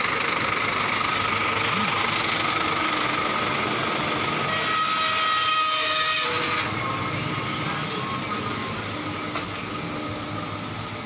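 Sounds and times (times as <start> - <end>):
truck engines rumbling: 0.0 - 11.0.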